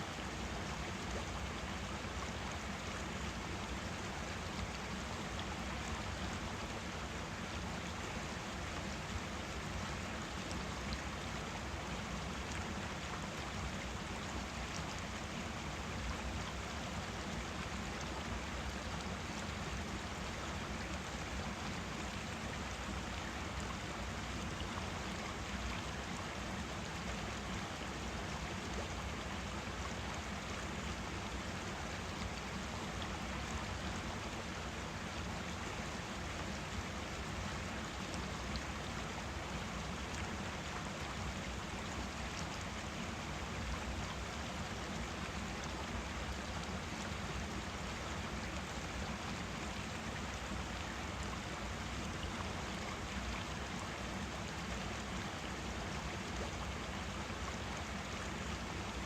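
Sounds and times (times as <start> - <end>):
forest stream babbling: 0.0 - 59.0.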